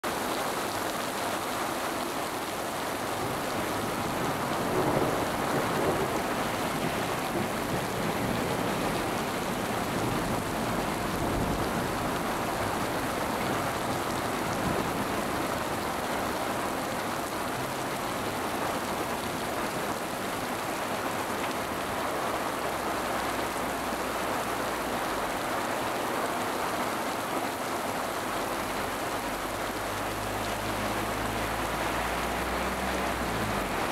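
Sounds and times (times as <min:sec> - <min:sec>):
car driving on wet road: 0:00.0 - 0:33.9
heavy rain on pavement: 0:00.0 - 0:33.9
rain splashing into water: 0:00.0 - 0:33.9.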